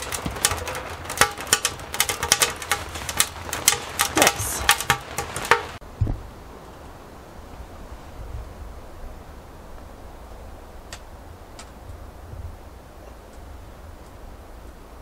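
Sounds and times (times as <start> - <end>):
faint wind: 0.0 - 15.0.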